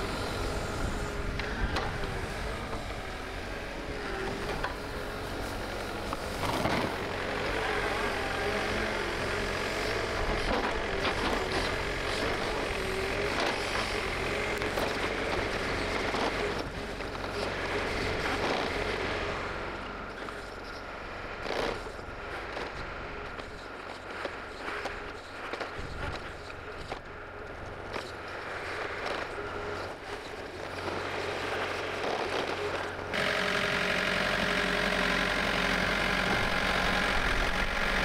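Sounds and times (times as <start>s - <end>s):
heavy vehicle engine running: 0.0s - 38.0s.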